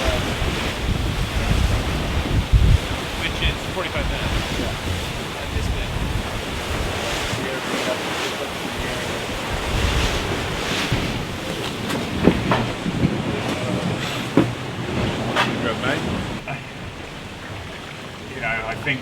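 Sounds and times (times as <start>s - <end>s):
rushing sea water: 0.0s - 19.0s
wind buffeting microphone: 0.0s - 19.0s.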